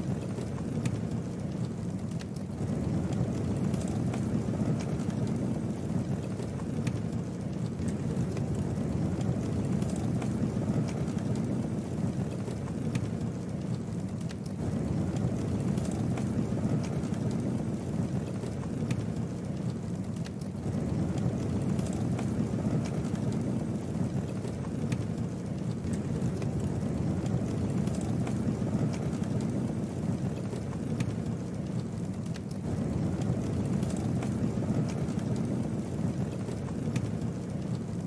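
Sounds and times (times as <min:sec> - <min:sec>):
campfire burning: 0:00.0 - 0:38.0.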